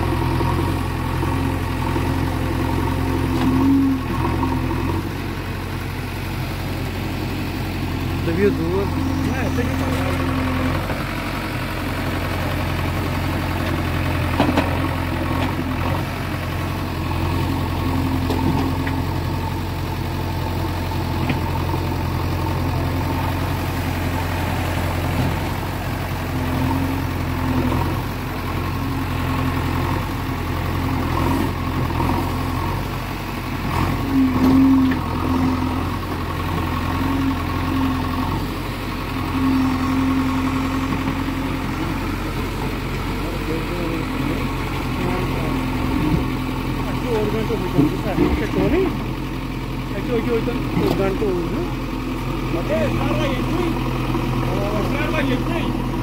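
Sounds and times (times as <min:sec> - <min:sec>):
backhoe diesel engine running: 0:00.0 - 0:56.0.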